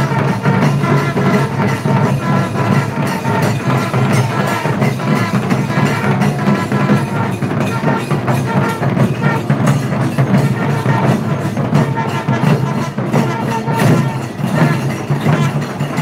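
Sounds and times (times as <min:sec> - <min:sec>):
fast continuous drumming: 0:00.0 - 0:16.0
pitched instrument holding notes: 0:00.0 - 0:16.0.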